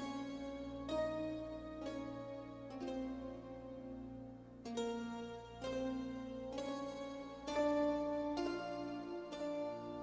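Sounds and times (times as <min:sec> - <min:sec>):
slow instrumental melody: 0:00.0 - 0:10.0.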